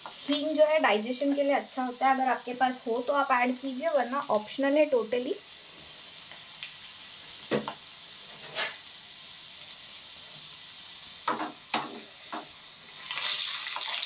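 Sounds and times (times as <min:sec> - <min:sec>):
hot oil sizzling in a pan: 0:00.0 - 0:14.0.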